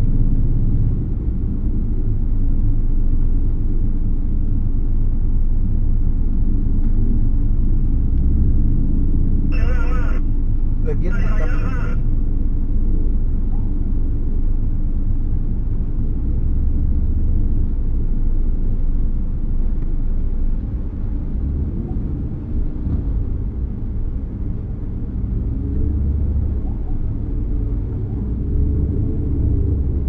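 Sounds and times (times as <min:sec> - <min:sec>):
vehicle engine rumble: 0:00.0 - 0:30.0.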